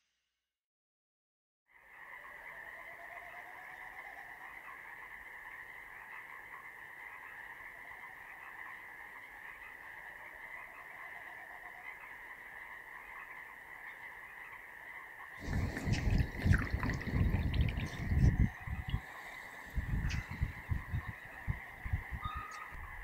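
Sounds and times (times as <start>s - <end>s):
chorus of frogs calling: 1.7s - 23.0s.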